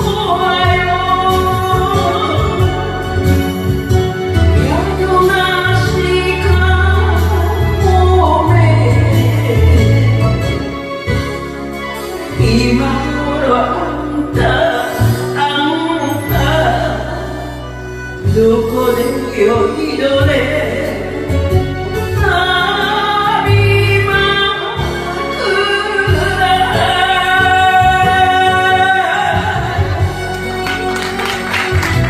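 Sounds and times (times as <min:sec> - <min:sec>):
woman singing into microphone: 0:00.0 - 0:03.4, 0:04.4 - 0:10.8, 0:12.3 - 0:30.3.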